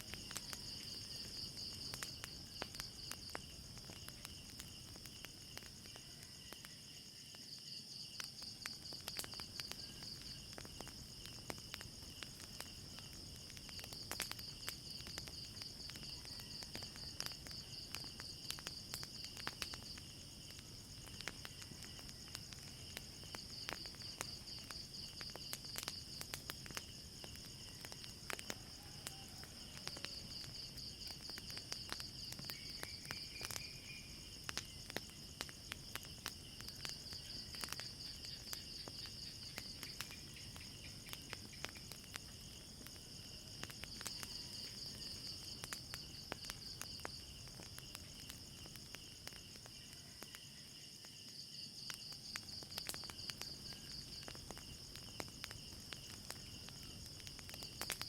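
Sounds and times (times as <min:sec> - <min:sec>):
crickets trilling: 0:00.0 - 0:58.0
wood fire crackling: 0:00.0 - 0:58.0.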